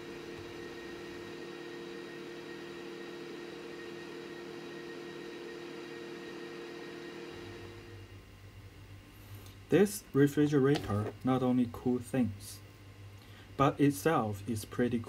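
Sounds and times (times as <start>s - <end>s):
cooling unit humming: 0.0s - 15.0s.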